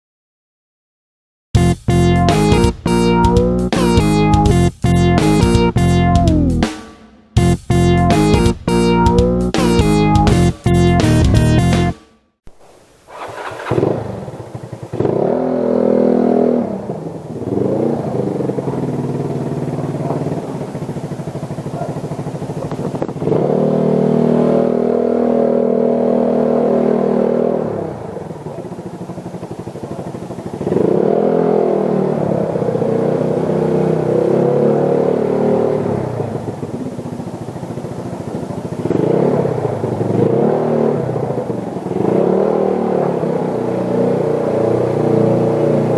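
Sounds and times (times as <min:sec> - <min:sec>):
motorcycle engine accelerating: 0:01.6 - 0:11.9, 0:12.5 - 0:45.9.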